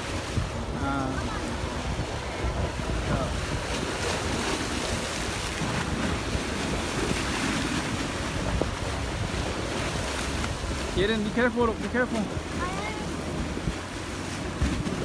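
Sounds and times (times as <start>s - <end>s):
waves rushing: 0.0s - 15.0s
wind buffeting microphone: 0.0s - 15.0s.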